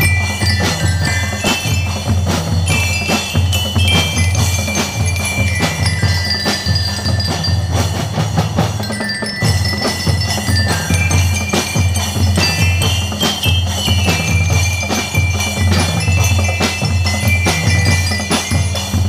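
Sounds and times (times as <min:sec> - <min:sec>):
bass and snare drums marching beat: 0:00.0 - 0:19.0
bell lyres ringing melody: 0:00.0 - 0:19.0.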